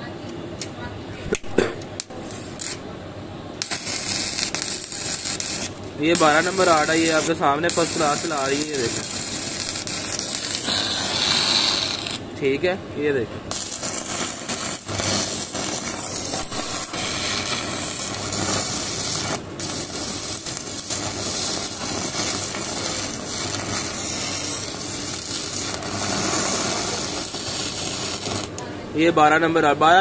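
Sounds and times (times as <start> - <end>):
welding arc crackling sizzle: 1.9 - 12.7, 13.5 - 29.4.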